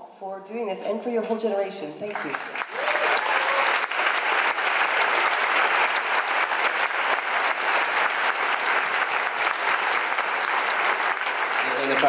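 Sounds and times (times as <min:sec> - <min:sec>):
audience applauding: 0:02.1 - 0:12.0.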